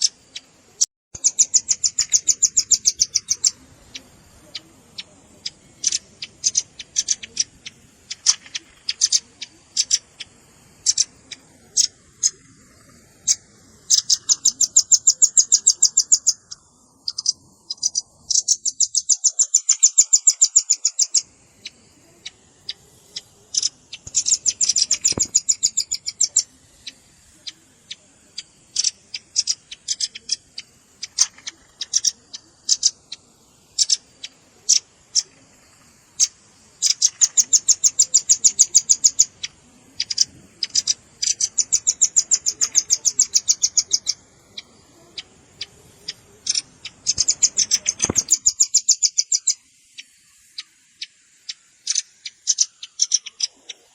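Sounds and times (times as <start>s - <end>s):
bird calls in fast trills: 0.0s - 53.9s.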